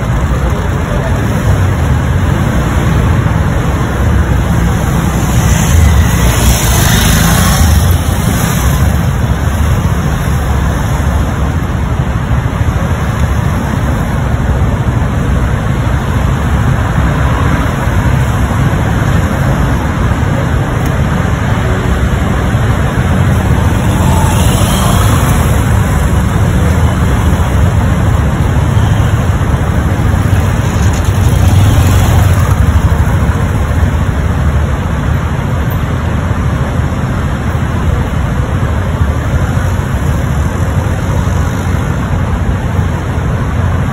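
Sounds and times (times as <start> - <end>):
engines idling: 0.0 - 43.9
road traffic noise: 0.0 - 43.9.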